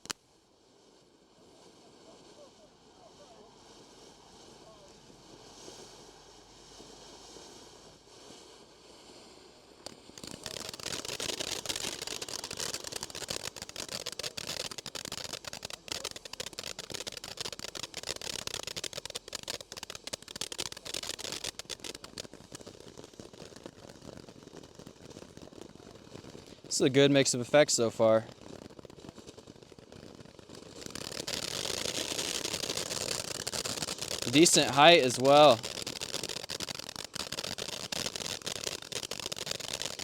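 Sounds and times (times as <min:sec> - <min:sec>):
firework fountain crackling and hissing: 0:00.0 - 0:40.0.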